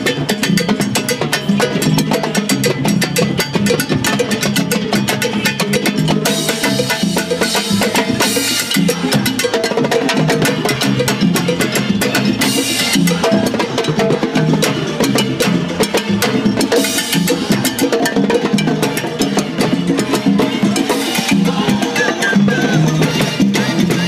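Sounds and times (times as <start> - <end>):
salsa music: 0.0 - 24.0
timbales and cowbells struck: 0.0 - 24.0.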